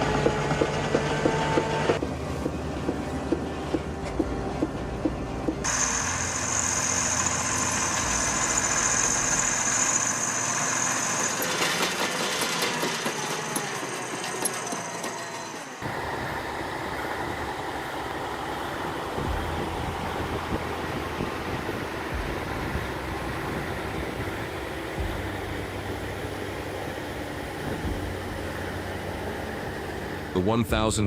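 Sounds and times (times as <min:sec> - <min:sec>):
heavy machinery engines running: 0:00.0 - 0:31.0
high machine whine: 0:00.0 - 0:31.0.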